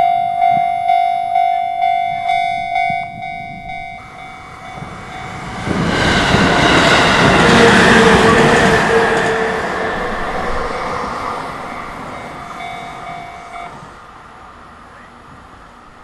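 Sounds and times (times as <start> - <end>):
electric train running past: 0.0 - 16.0.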